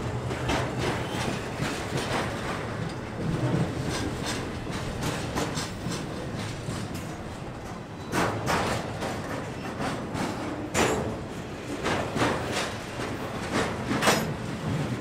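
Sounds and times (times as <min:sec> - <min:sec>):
train wheels rumbling on rail: 0:00.0 - 0:15.0
wheels clacking over rail joints: 0:00.0 - 0:15.0.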